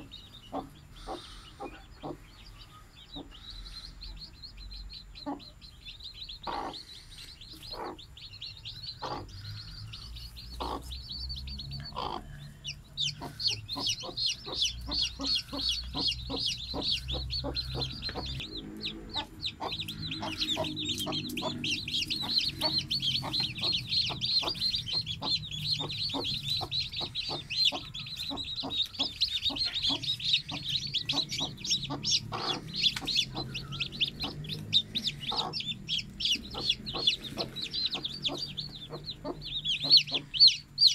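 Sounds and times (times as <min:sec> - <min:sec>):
hen clucking: 0:00.0 - 0:03.4, 0:05.2 - 0:40.9
chicks peeping: 0:00.0 - 0:40.9.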